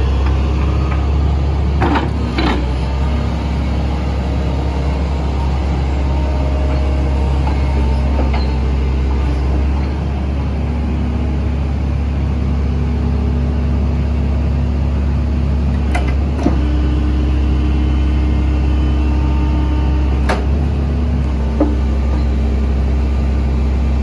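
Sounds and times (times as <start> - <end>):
hydraulic hum: 0.0 - 13.7, 15.0 - 24.0
diesel engine running: 0.0 - 24.0.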